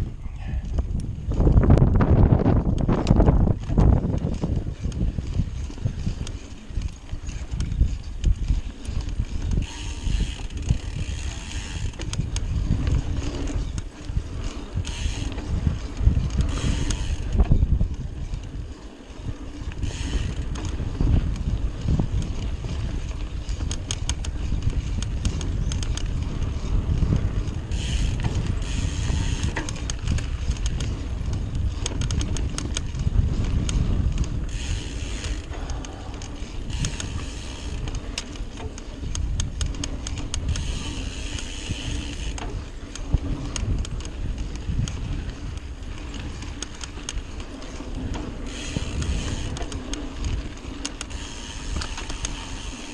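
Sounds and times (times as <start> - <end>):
bike frame rattling and clicking: 0.0 - 52.9
bike tyres rolling on dirt: 0.0 - 52.9
wind rumble on microphone: 0.0 - 52.9.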